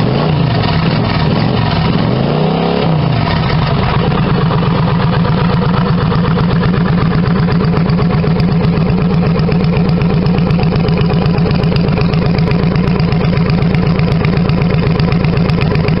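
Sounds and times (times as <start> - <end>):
motorcycle idling: 0.0 - 16.0.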